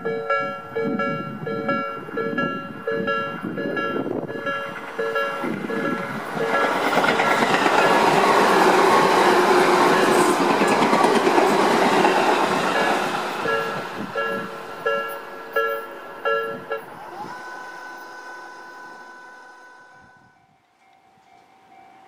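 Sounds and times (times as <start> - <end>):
crossing alarm bell chime: 0.0 - 22.0
electric train passing: 0.0 - 22.0.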